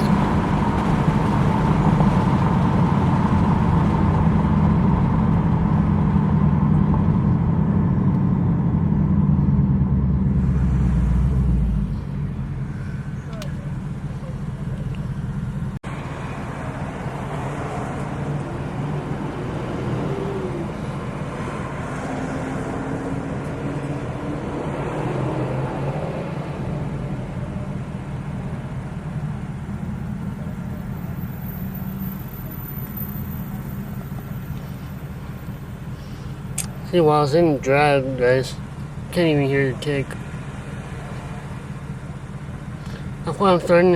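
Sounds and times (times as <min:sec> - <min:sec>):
car engine running while driving: 0:00.0 - 0:43.9
road noise: 0:00.0 - 0:43.9.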